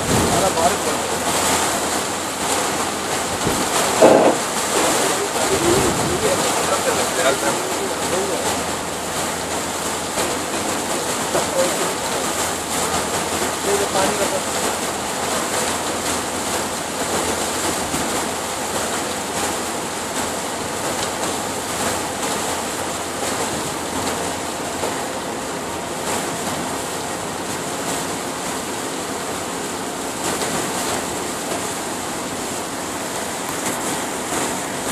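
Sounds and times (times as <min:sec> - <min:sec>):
heavy rain on vehicle: 0:00.0 - 0:34.9
tyres hissing on wet road: 0:00.0 - 0:34.9.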